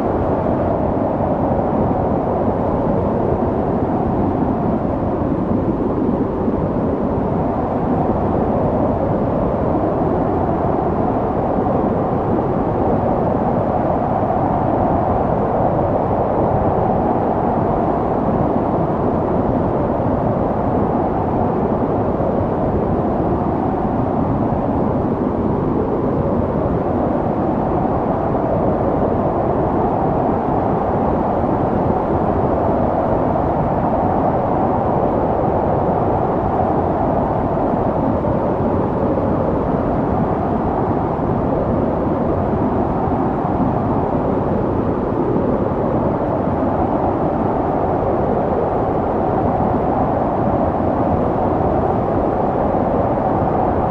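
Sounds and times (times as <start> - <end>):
snowstorm wind howling: 0.0 - 53.9.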